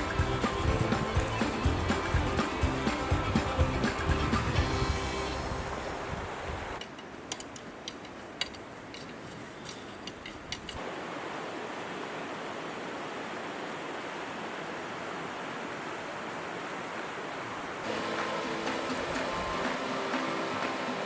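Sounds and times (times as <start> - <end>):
creek water rushing: 0.0 - 7.3, 10.8 - 21.0.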